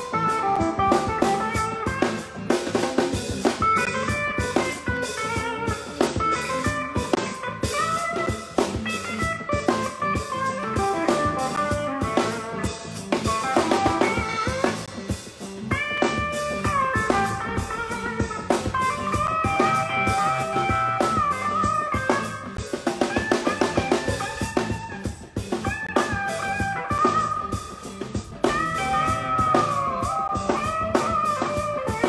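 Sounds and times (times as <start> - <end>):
drum kit groove: 0.0 - 32.0
electric guitar lead lines: 0.0 - 32.0.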